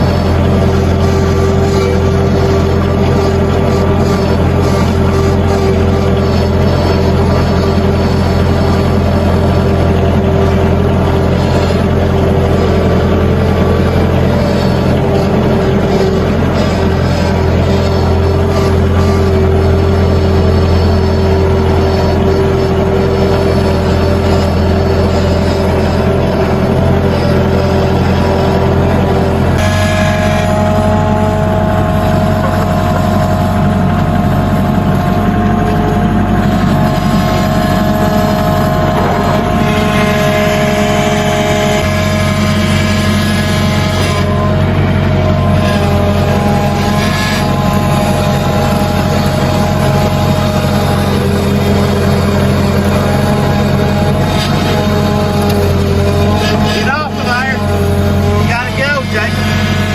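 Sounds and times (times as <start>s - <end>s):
engine droning steadily: 0.0s - 59.9s
high whine: 0.0s - 59.9s.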